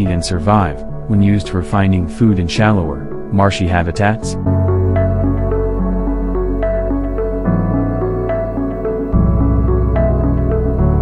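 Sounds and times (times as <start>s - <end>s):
held low bass note: 0.0s - 11.0s
slow gentle melody: 0.0s - 11.0s.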